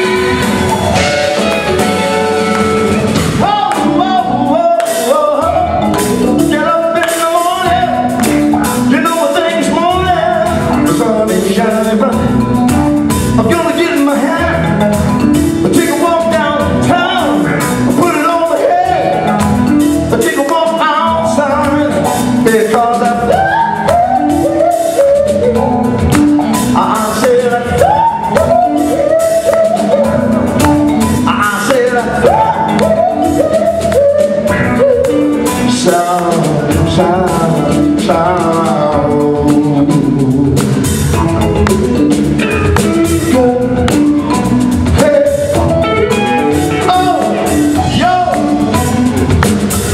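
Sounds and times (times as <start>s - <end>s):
live band playing: 0.0s - 49.9s
man singing: 3.1s - 49.2s.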